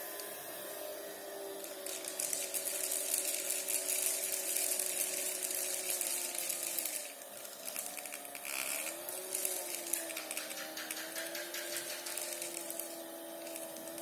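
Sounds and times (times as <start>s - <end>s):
high hiss with rattling: 0.0s - 14.0s
small motor whining: 0.0s - 14.0s.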